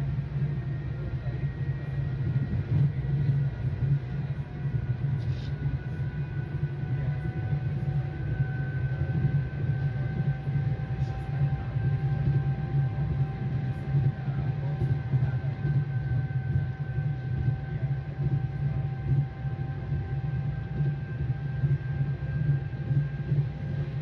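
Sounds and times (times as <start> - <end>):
faint high whine: 0.0 - 24.0.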